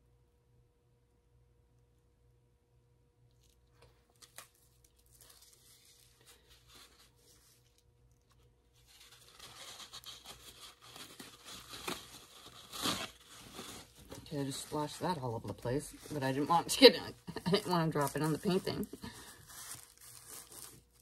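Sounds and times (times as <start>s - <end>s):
crinkling and rustling handling noise: 3.3s - 21.0s.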